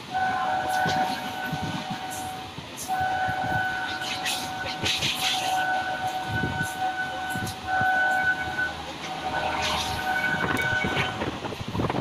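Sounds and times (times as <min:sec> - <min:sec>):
steady high-pitched tone: 0:00.0 - 0:11.5
train running noise: 0:00.0 - 0:12.0.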